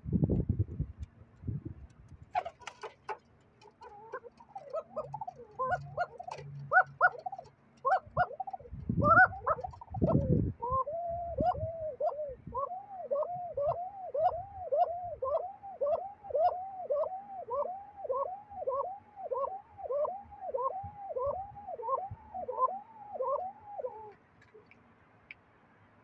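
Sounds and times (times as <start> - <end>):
pigeons cooing: 2.3 - 24.2.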